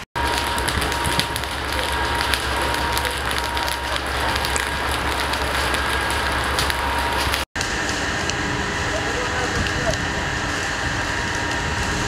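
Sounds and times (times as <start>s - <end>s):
fire crackling: 0.0s - 12.0s
fire low rumble: 0.0s - 12.0s.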